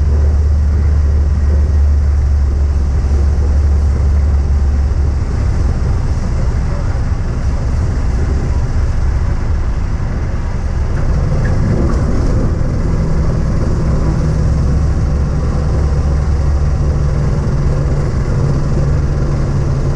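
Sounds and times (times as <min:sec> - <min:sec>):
aircraft engine and propeller drone: 0:00.0 - 0:19.9
rushing air: 0:00.0 - 0:19.9.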